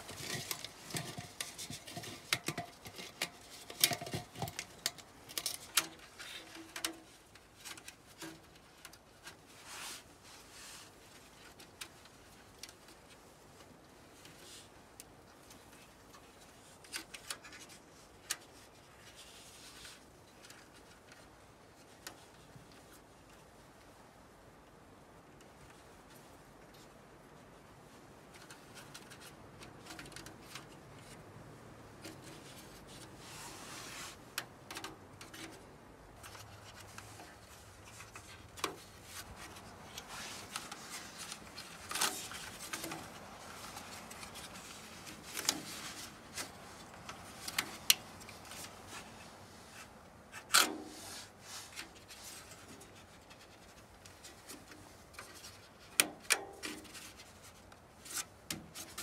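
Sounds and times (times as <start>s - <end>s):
thin metal duct crinkling: 0.0s - 23.7s, 25.4s - 59.0s.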